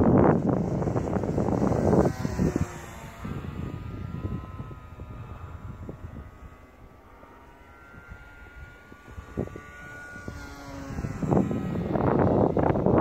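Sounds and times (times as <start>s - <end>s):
model plane motor whining: 0.0s - 13.0s
wind buffeting microphone: 0.0s - 13.0s.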